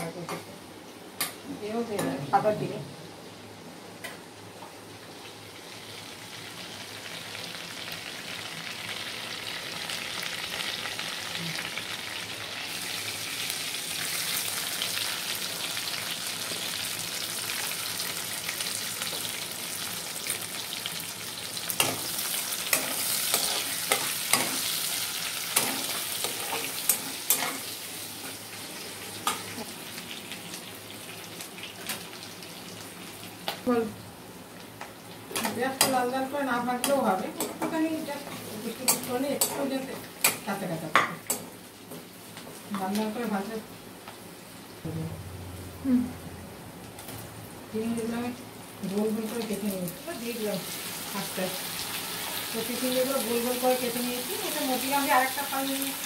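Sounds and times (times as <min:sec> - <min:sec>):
onions sizzling in oil: 0:01.6 - 0:44.9, 0:47.0 - 0:56.0.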